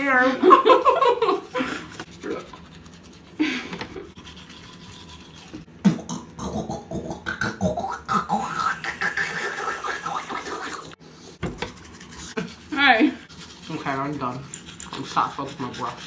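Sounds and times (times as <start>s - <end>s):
toothbrush scrubbing teeth: 0.7s - 16.0s.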